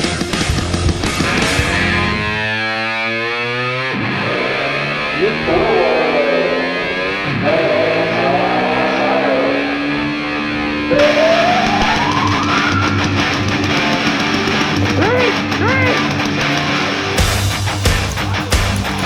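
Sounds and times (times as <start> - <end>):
rock music with distorted guitar: 0.0 - 19.0.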